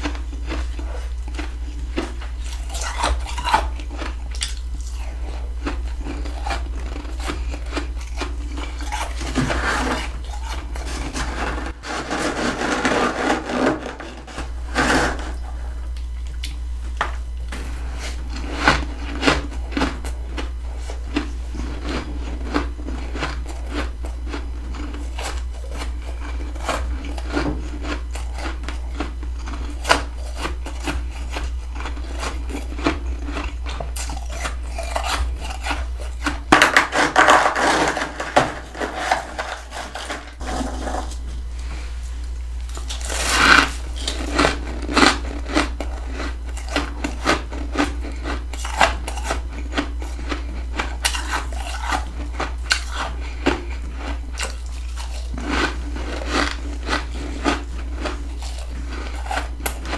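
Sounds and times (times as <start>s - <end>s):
frost being scraped and crunched: 0.0s - 16.0s, 24.6s - 59.9s
steady low hum: 0.0s - 59.9s.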